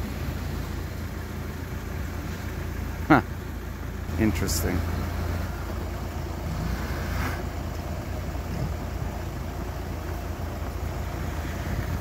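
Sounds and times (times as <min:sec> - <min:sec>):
low rumble of car engines: 0:00.0 - 0:12.0.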